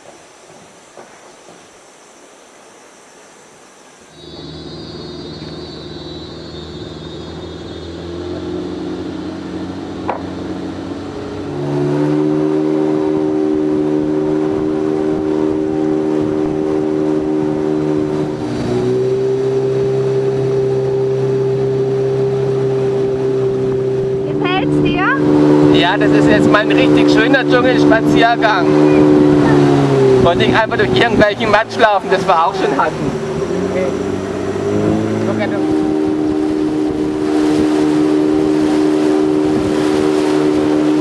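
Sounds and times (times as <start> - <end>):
outboard motor running: 4.1 - 41.0.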